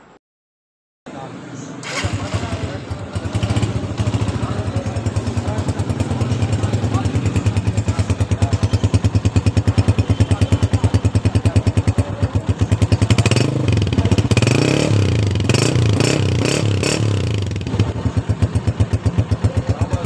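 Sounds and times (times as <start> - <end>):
motorcycle engine idling and revving: 1.8 - 20.0.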